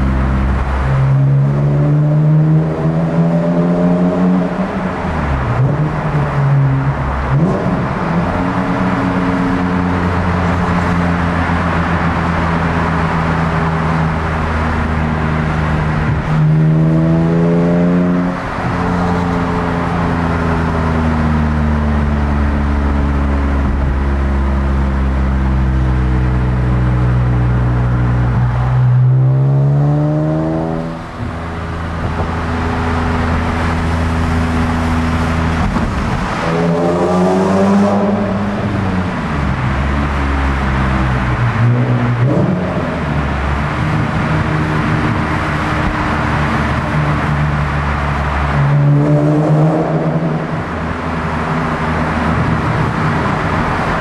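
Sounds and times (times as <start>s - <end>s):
car engine revving: 0.0s - 54.0s
tyre and road noise: 0.0s - 54.0s.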